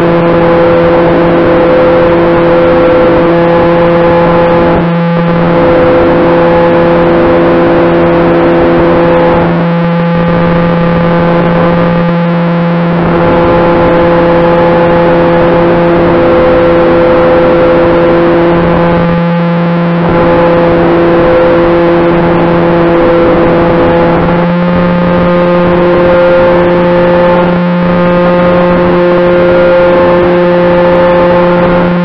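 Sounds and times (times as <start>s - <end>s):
model airplane motors droning: 0.0s - 32.0s.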